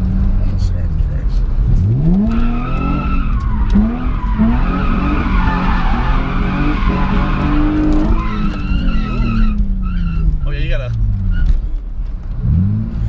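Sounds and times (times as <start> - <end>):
tyres skidding and squealing: 0.0 - 12.7
car engine revving: 0.0 - 13.0.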